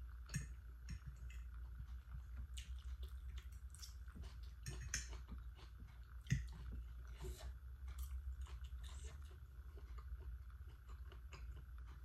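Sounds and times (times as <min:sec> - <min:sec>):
steady low hum: 0:00.0 - 0:12.0
wet chewing and lip smacking: 0:01.0 - 0:12.0.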